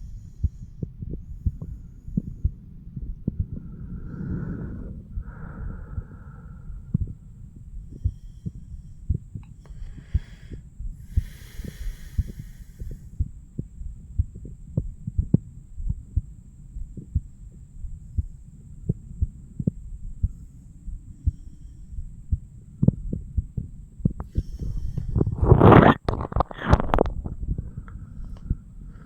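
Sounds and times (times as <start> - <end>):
heartbeat through stethoscope: 0.0 - 29.0
low rumble: 0.0 - 29.0.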